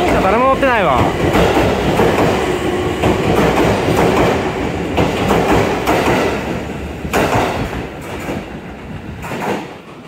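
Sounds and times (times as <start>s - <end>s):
steady train hum: 0.0s - 10.0s
train wheels clacking over rail joints: 0.0s - 10.0s.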